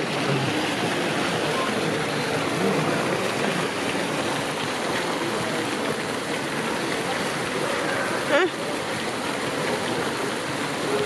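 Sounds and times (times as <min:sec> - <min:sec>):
crowd chatting: 0:00.0 - 0:11.0.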